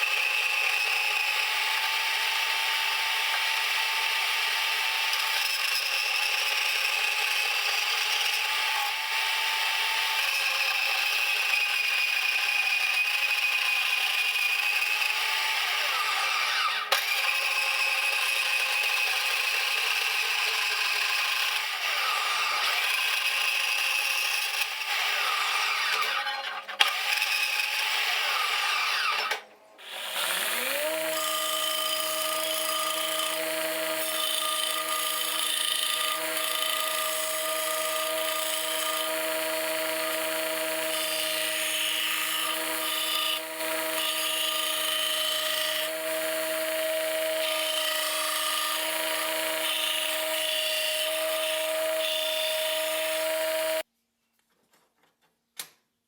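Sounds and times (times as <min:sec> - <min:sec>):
power tool motor whining: 0:00.0 - 0:53.8.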